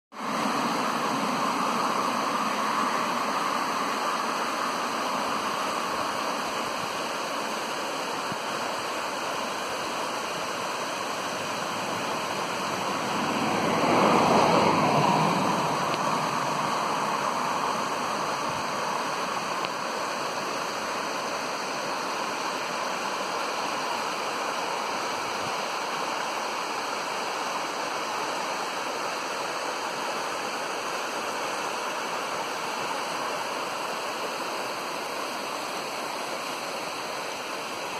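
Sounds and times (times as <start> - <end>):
stream rushing over stones: 0.1 - 37.9.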